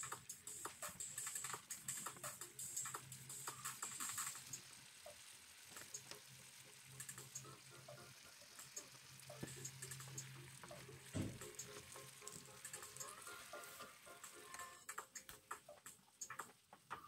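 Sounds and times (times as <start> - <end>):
shrimp sizzling in a pan: 0.0 - 14.8.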